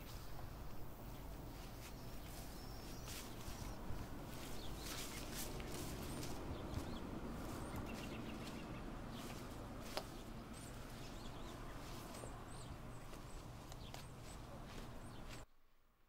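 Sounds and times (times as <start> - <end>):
footsteps through tall grass: 0.0 - 15.5
small birds chirping: 0.0 - 15.5.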